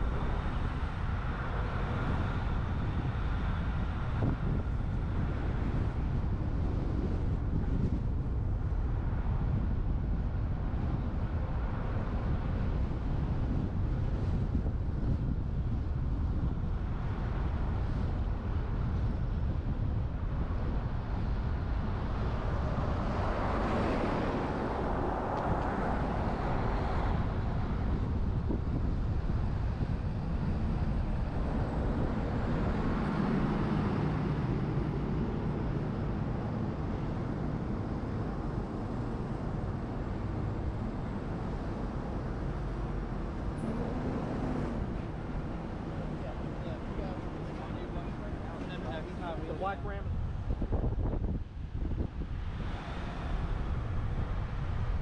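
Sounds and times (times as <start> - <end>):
truck road and tyre rumble: 0.0 - 55.0
wind on microphone: 0.0 - 55.0.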